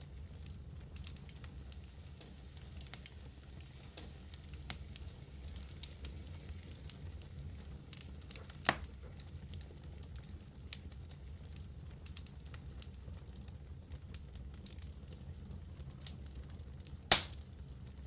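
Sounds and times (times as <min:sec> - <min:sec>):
wood fire crackles and pops: 0:00.0 - 0:18.0.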